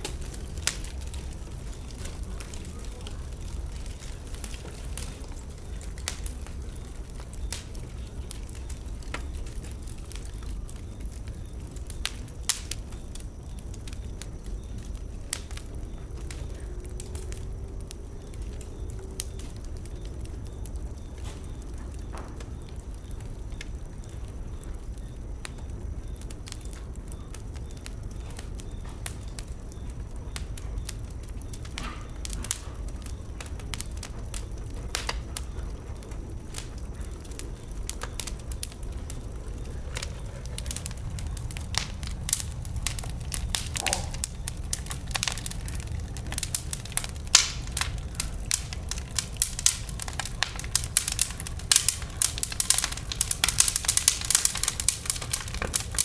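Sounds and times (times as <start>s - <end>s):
steady low rumble: 0.0s - 56.0s
wood fire crackling and popping: 0.0s - 56.0s.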